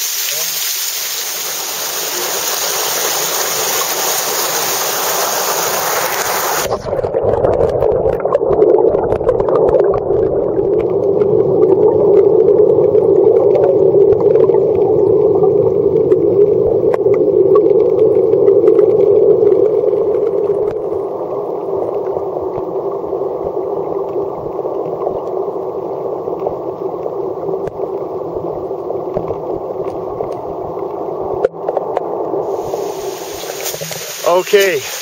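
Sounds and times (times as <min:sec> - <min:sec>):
muffled stream water rushing: 0:00.0 - 0:07.8, 0:08.4 - 0:35.0.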